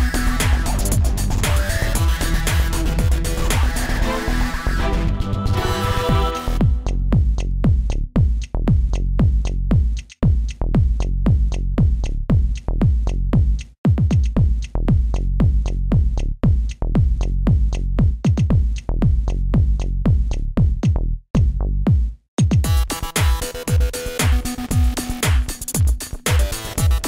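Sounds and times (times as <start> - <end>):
electronic music with fast beat: 0.0 - 27.0.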